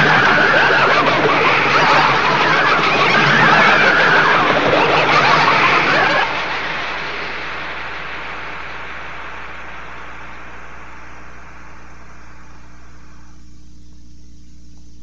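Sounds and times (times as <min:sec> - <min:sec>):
hiss: 0:00.0 - 0:13.3
industrial noise music drone: 0:00.0 - 0:14.3
low hum: 0:00.0 - 0:15.0.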